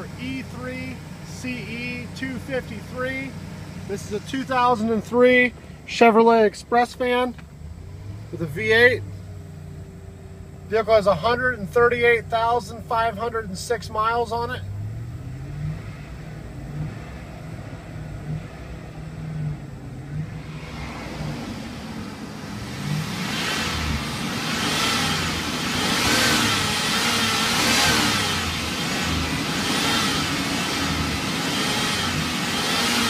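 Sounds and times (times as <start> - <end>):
van engine idling: 0.0 - 33.0.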